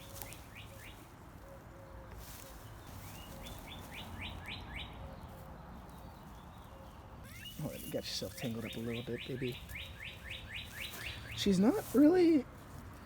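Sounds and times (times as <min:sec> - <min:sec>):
faint outdoor background: 0:00.0 - 0:13.0
songbird chirping: 0:00.0 - 0:13.0.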